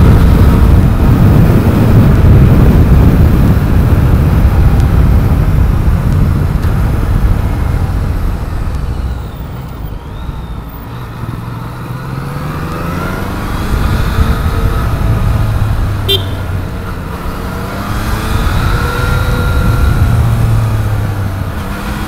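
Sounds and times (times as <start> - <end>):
motorcycle engine: 0.0 - 22.0
wind rumble on microphone: 0.0 - 22.0.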